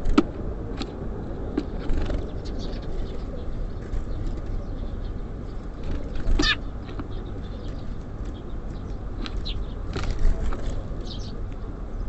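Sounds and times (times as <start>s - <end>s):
low rumble of city traffic: 0.0s - 12.0s
songbirds chirping: 0.0s - 12.0s.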